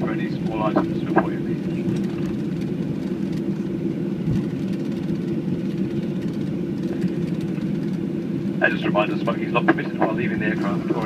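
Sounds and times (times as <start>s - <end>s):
airplane cabin low rumble: 0.0s - 11.0s.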